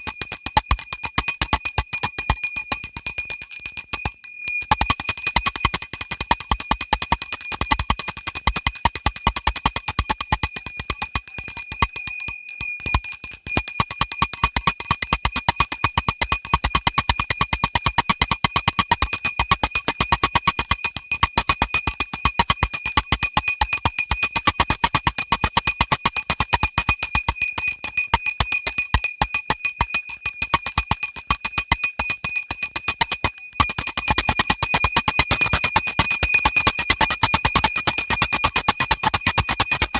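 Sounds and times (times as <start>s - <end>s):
bell rung rapidly: 0.0s - 39.9s.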